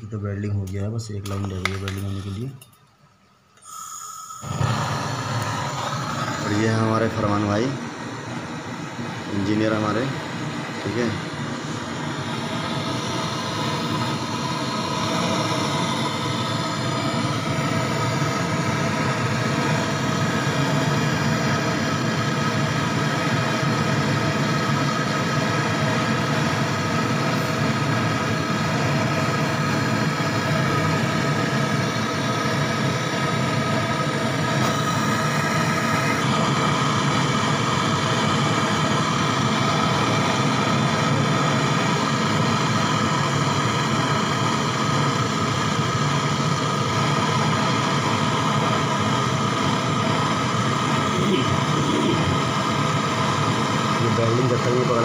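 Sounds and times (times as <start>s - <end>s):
gas torch hissing: 1.3s - 2.7s, 3.5s - 55.0s.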